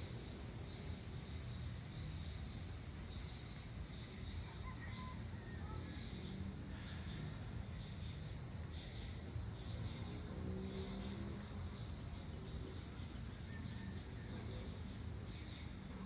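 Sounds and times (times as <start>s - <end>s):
crickets chirping: 0.0s - 16.0s
high-pitched insect trill: 0.0s - 16.0s.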